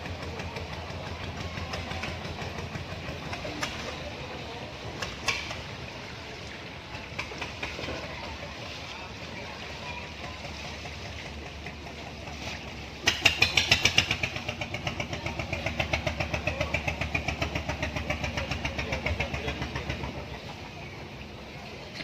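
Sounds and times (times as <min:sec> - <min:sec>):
small boat engine running: 0:00.0 - 0:22.0.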